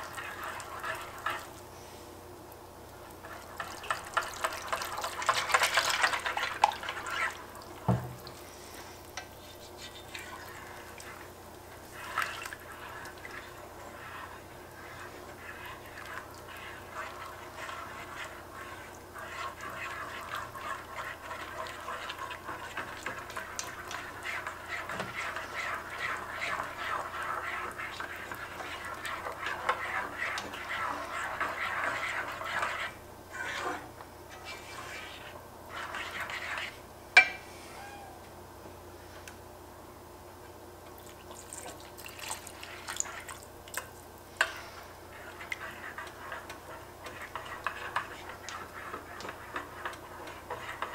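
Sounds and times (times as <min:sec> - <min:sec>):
whisk beating thick sauce: 0:00.0 - 0:01.7, 0:03.0 - 0:36.9, 0:41.2 - 0:50.9.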